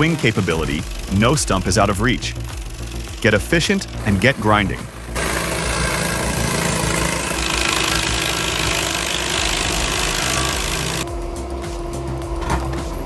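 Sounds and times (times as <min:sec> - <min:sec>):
engine running: 0:00.0 - 0:13.0
stump grinder grinding: 0:00.0 - 0:13.0.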